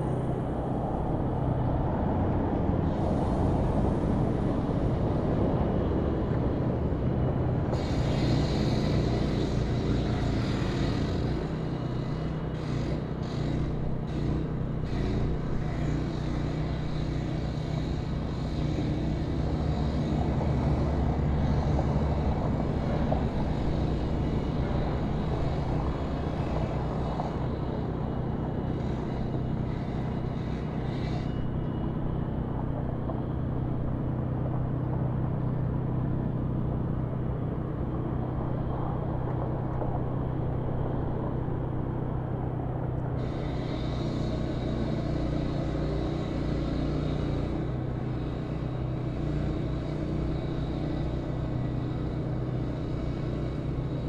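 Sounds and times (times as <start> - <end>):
heavy machine engine running: 0.0 - 54.0.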